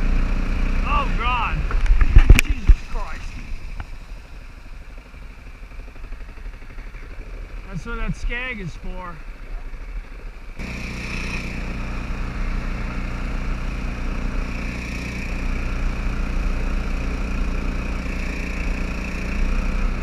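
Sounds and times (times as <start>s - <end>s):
boat motor droning: 0.0s - 20.0s.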